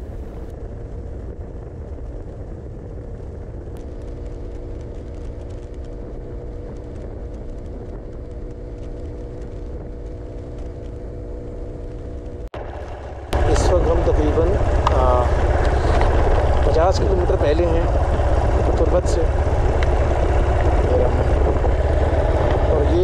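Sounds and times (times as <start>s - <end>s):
motorcycle engine hum: 0.0s - 23.0s
wind buffeting microphone: 0.0s - 23.0s.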